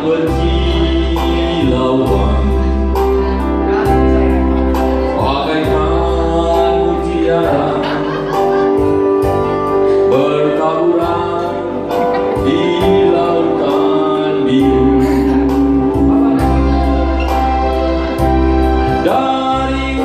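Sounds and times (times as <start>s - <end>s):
man singing into microphone: 0.0s - 9.0s, 9.7s - 20.0s
sustained musical backing: 0.0s - 20.0s.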